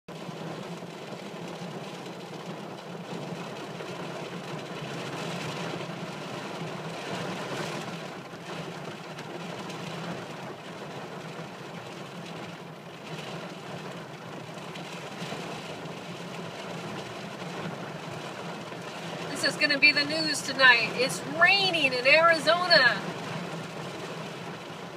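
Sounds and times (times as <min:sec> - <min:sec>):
heavy rain on car roof: 0:00.1 - 0:24.9.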